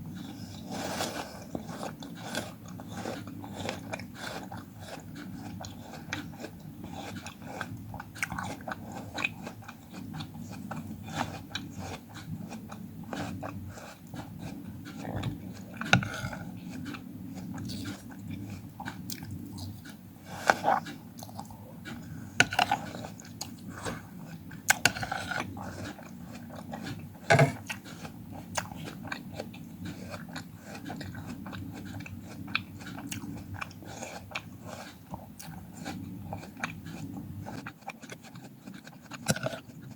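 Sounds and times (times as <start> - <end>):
chewing fruit: 0.0 - 39.9.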